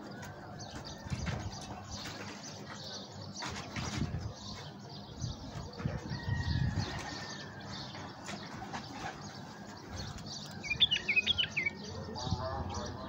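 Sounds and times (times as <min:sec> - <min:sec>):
bulbuls chirping: 0:00.0 - 0:13.0.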